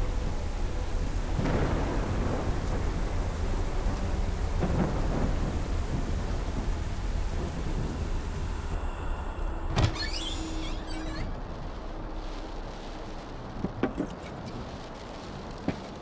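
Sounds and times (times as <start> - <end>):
rain: 0.0 - 16.0
thunder rumble: 0.0 - 16.0.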